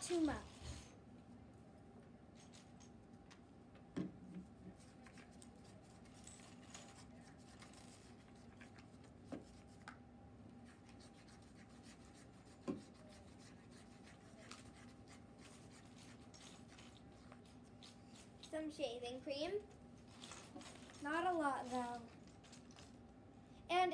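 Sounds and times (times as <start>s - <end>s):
low room hum: 0.0s - 23.9s.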